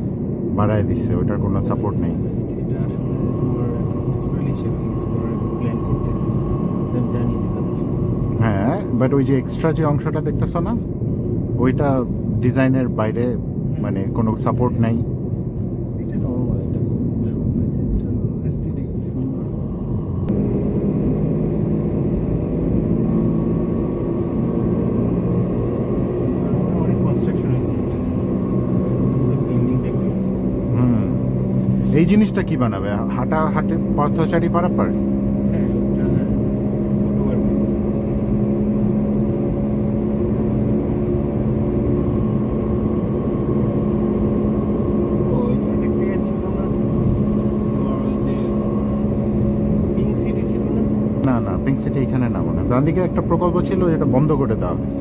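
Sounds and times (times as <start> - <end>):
car cabin engine and tyre rumble: 0.0 - 55.0.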